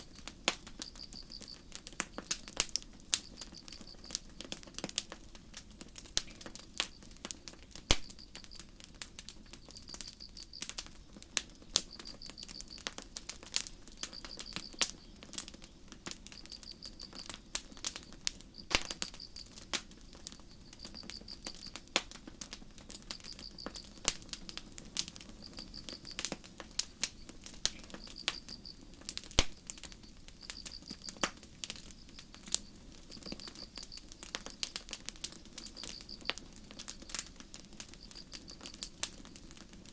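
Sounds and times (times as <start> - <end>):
crickets chirping: 0.0 - 4.3, 7.9 - 39.4
campfire crackling and popping: 0.0 - 39.9.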